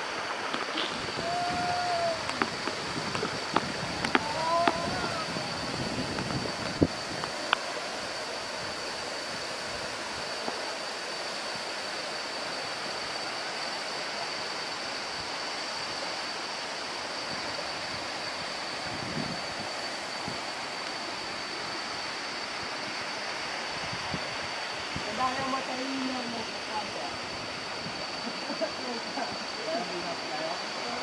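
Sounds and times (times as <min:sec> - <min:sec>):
waterfall rushing: 0:00.0 - 0:29.7.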